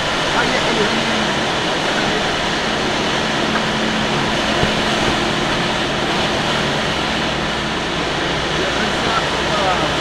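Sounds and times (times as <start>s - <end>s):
air rushing around cockpit: 0.0s - 10.0s
propeller engine drone: 0.0s - 10.0s.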